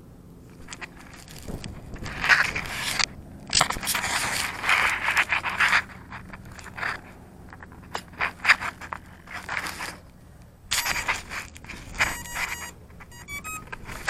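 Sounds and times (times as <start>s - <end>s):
fingers scraping camera body: 0.5s - 10.1s, 10.7s - 14.0s.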